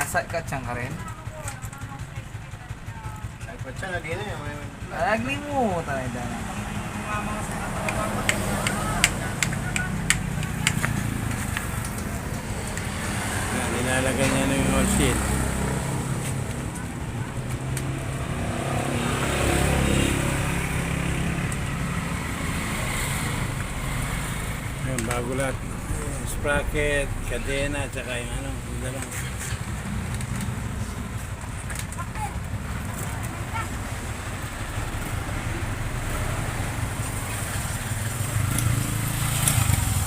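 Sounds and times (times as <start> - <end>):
motor vehicle engine running: 0.0 - 40.0.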